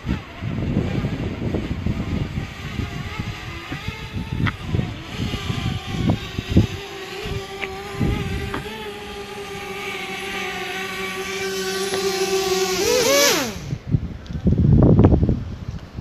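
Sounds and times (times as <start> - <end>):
drone propeller motors whining: 0.0 - 14.2
wind buffeting microphone: 0.0 - 16.0.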